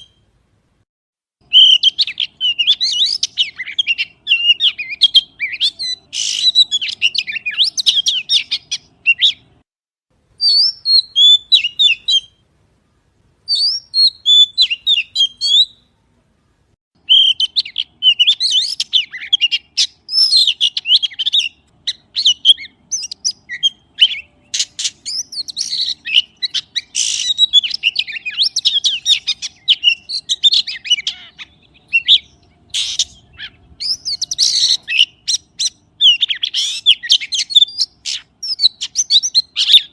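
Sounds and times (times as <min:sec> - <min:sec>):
songbird chirping and whistling: 0:00.0 - 0:00.3, 0:01.4 - 0:09.6, 0:10.3 - 0:39.9.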